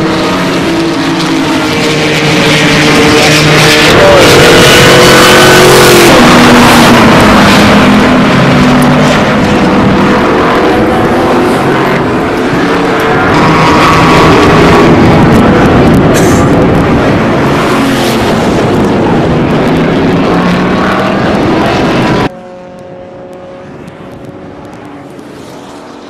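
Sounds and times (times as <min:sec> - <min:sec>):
pickup truck engine running hard: 0:00.0 - 0:22.3
loud rush of noise: 0:00.0 - 0:26.0.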